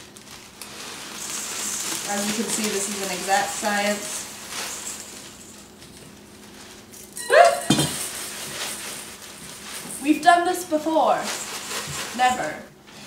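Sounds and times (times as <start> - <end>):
puffed rice poured into metal bowl: 0.0 - 5.8, 6.4 - 12.6.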